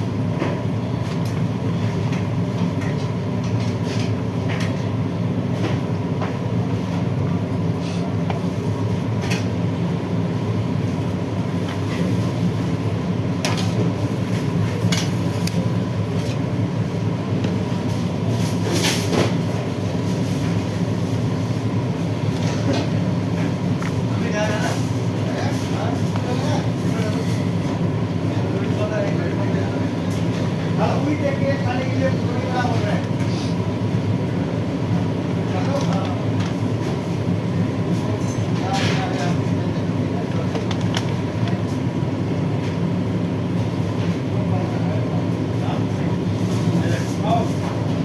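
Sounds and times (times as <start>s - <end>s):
low mechanical rumble: 0.0s - 48.0s.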